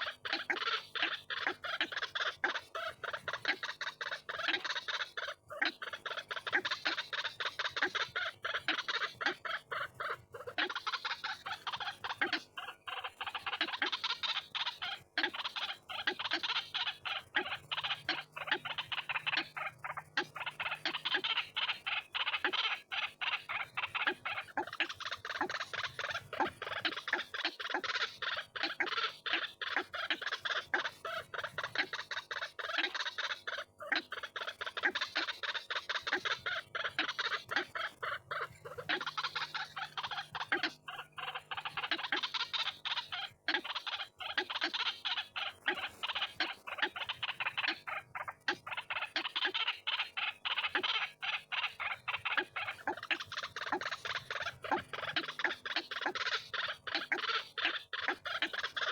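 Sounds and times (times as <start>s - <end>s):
bird harsh repeated calls: 0.0s - 58.9s.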